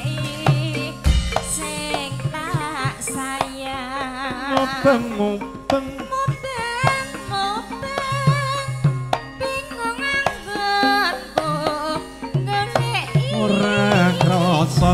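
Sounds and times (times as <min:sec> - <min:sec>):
hand drum strokes: 0:00.0 - 0:14.9
woman singing with vibrato: 0:00.0 - 0:14.9.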